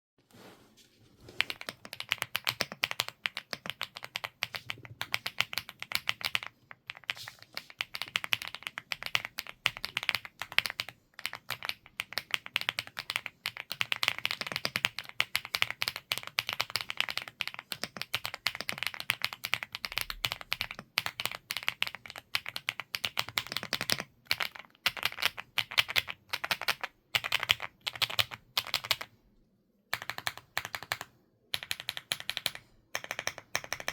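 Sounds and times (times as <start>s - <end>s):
mechanical keyboard typing: 1.4s - 29.2s, 29.9s - 33.9s.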